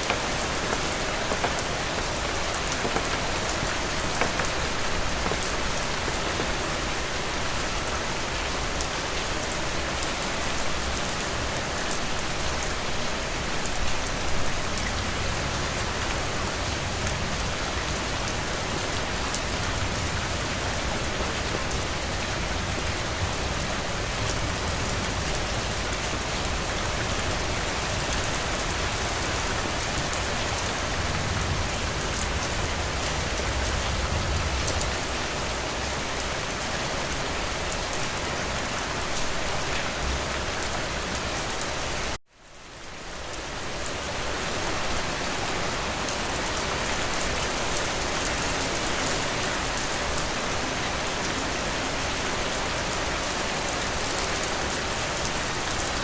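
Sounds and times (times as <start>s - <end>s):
heavy rain on a roof: 0.0s - 56.0s.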